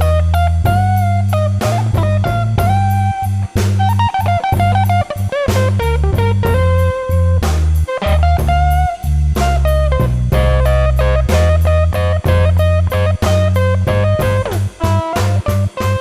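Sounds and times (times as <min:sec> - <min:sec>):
bass: 0:00.0 - 0:16.0
drum kit: 0:00.0 - 0:16.0
electric guitar lead notes: 0:00.0 - 0:16.0.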